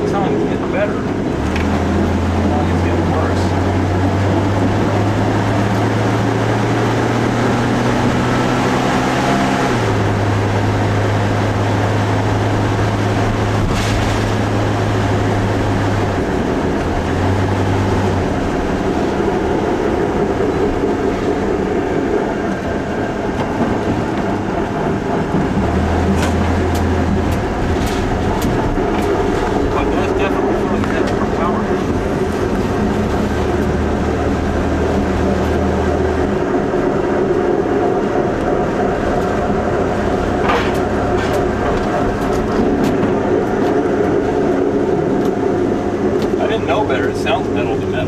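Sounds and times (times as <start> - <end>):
vehicle engine drone: 0.0 - 48.0.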